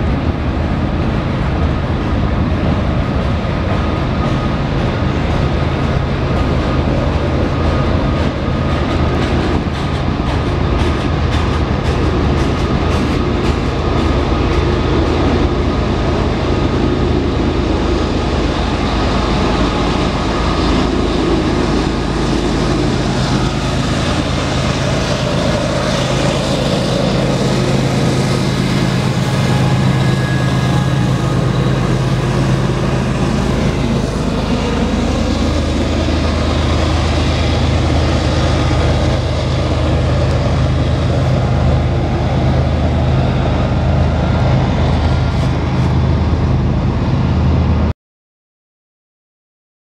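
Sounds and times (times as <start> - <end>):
diesel locomotive engine drone: 0.0 - 47.9
train cars rumbling on rails: 0.0 - 47.9.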